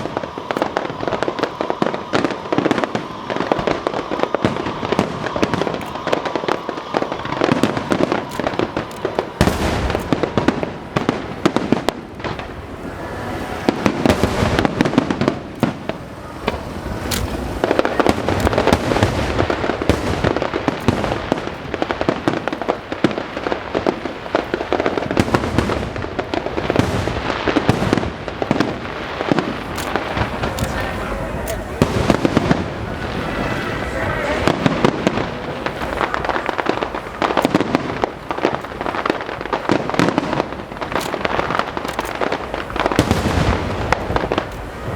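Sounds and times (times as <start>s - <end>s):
fireworks bangs and crackling: 0.0s - 44.9s
sharp fireworks cracks: 0.0s - 44.9s.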